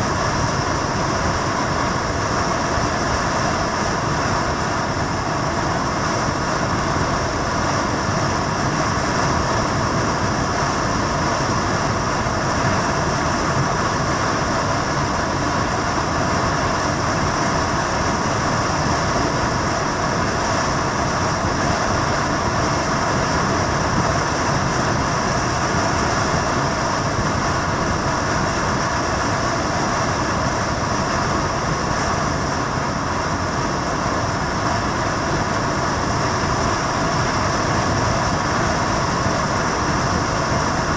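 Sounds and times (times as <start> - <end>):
vehicle running rumble and hiss: 0.0 - 40.9.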